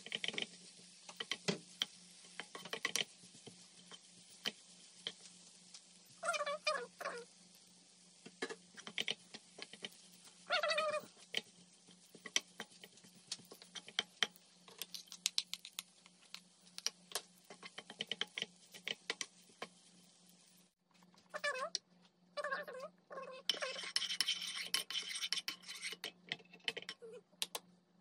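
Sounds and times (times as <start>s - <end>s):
wooden spoon scraping a frying pan: 0.0s - 20.8s, 23.2s - 27.2s.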